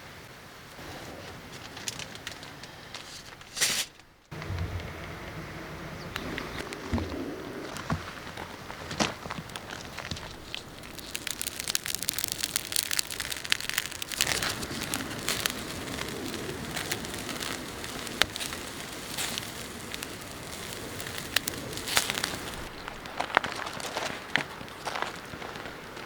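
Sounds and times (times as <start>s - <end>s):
wood fire crackling and popping: 1.2s - 5.2s, 6.0s - 26.0s.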